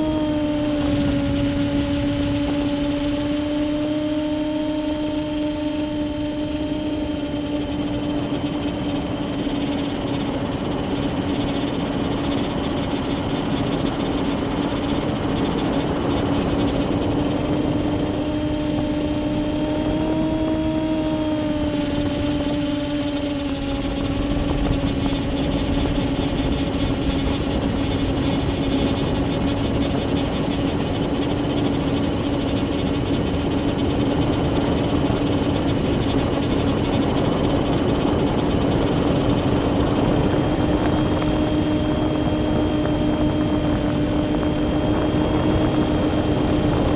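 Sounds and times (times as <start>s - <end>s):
drone motors and propellers humming: 0.0s - 46.9s.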